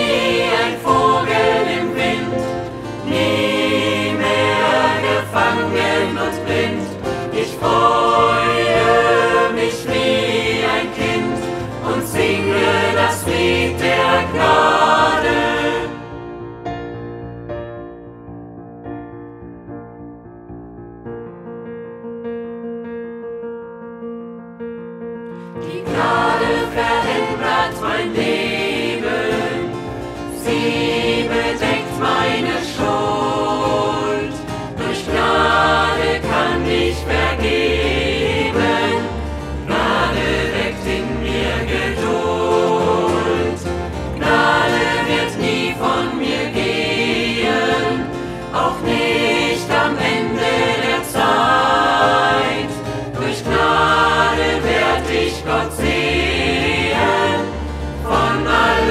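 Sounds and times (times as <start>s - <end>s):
choir singing: 0.0s - 16.6s, 25.4s - 58.9s.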